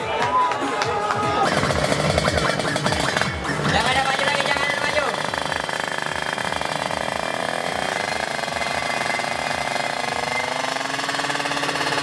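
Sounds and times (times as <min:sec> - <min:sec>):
two-stroke engine revving: 0:01.4 - 0:12.0.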